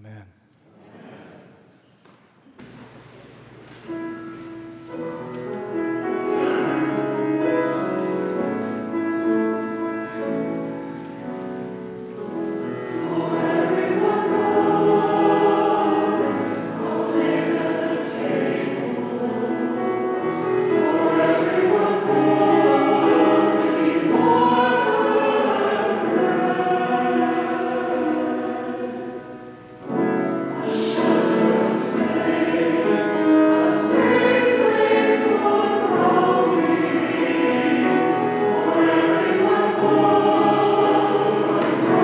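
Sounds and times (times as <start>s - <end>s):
church choir singing: 0.7s - 1.8s, 2.6s - 42.0s.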